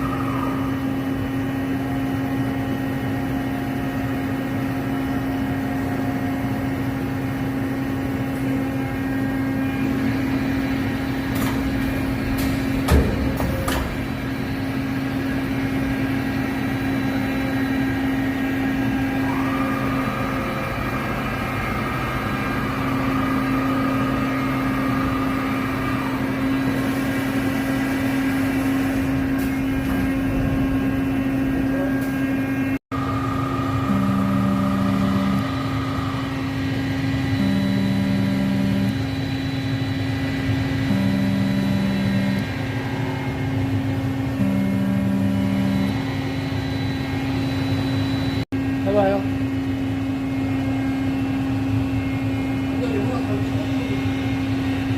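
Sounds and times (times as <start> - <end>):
high machine whine: 0.0 - 54.9
machining center humming: 0.0 - 54.9.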